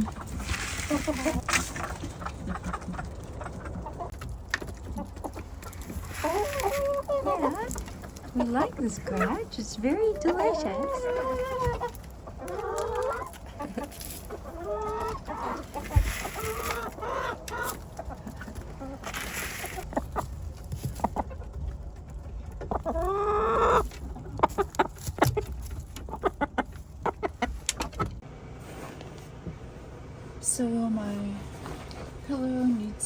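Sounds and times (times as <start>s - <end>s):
hens clucking: 0.0s - 28.2s.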